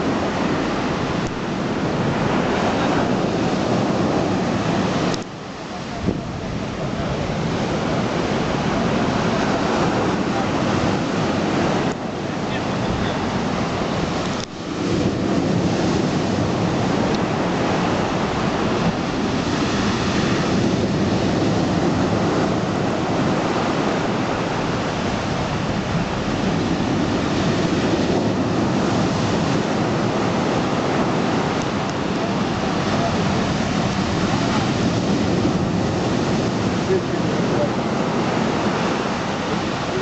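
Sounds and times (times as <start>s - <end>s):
surf washing onto shore: 0.0s - 40.0s
wind buffeting microphone: 0.0s - 40.0s.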